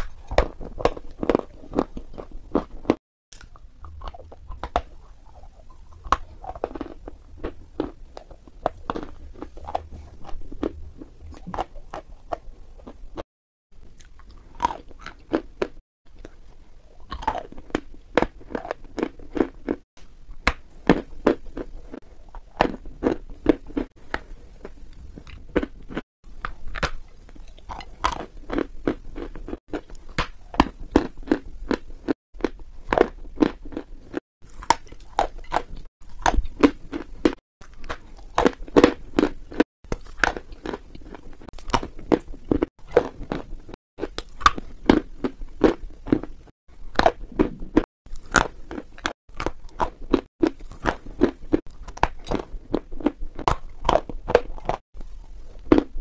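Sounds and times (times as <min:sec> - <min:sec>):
crunchy chewing: 0:00.0 - 0:13.2, 0:13.8 - 0:19.8, 0:20.5 - 0:56.0.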